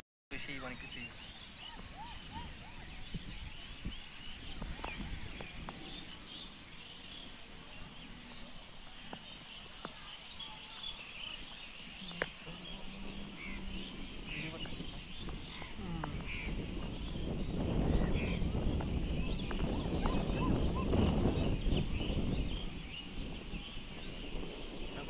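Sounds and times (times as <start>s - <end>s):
small birds chirping: 0.3s - 25.0s.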